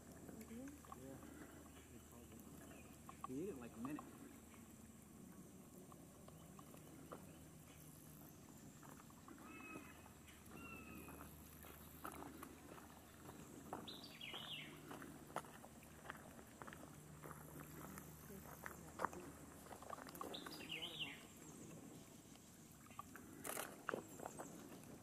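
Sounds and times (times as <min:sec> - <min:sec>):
low steady hum: 0:00.0 - 0:25.0
distant bird calls: 0:00.5 - 0:25.0.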